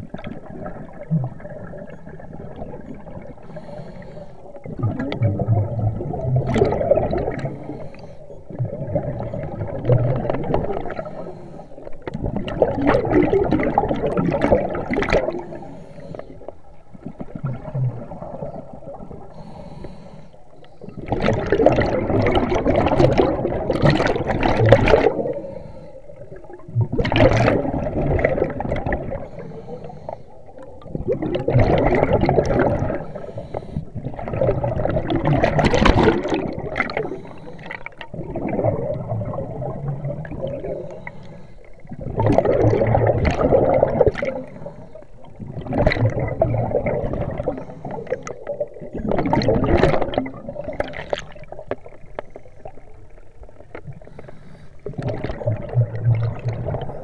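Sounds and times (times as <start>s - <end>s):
waves sloshing against boat hull: 0.0s - 57.0s.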